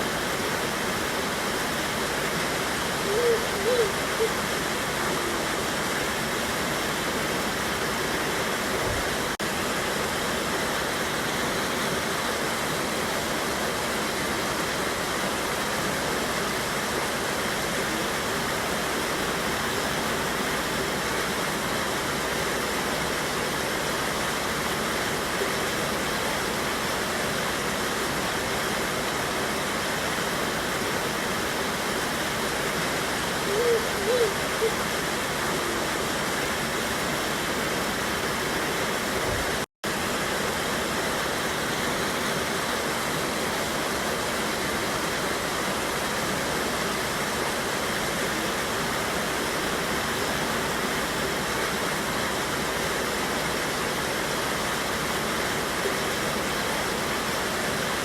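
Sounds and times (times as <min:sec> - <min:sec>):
water rushing over waterfall: 0:00.0 - 0:58.0.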